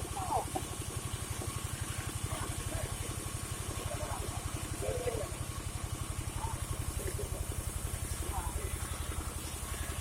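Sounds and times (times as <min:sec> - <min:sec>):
machine engine idling: 0:00.0 - 0:10.0.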